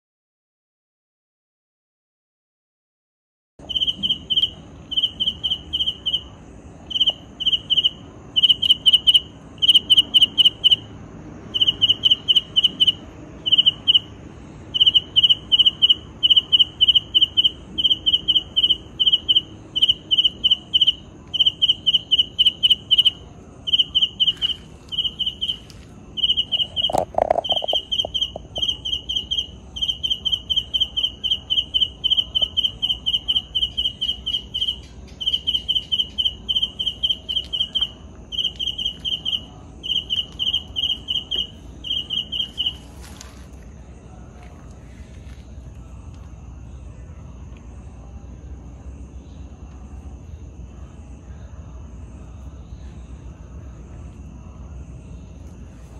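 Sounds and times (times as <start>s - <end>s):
insect chirping: 3.6s - 55.9s.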